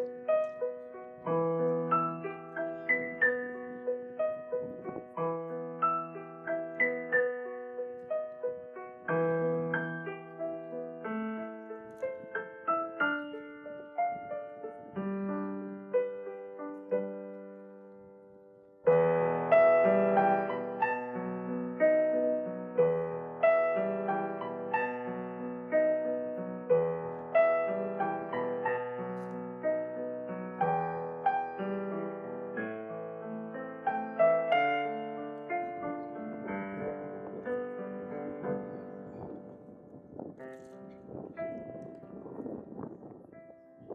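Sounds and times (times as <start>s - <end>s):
solo piano melody: 0.0s - 43.9s.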